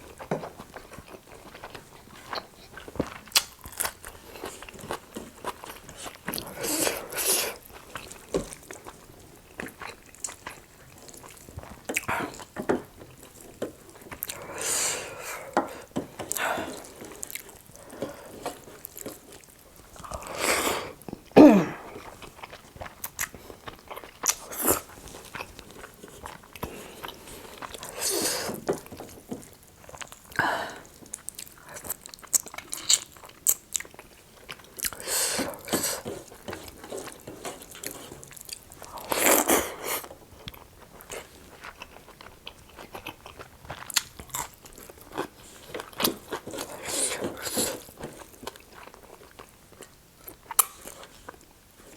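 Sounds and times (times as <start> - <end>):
chewing and biting: 0.1 - 14.5, 21.9 - 51.9.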